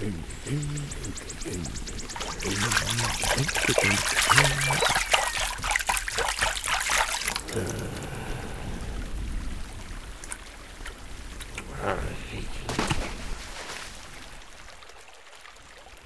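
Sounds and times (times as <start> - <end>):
water sloshing and trickling: 1.3 - 11.8, 12.5 - 16.0.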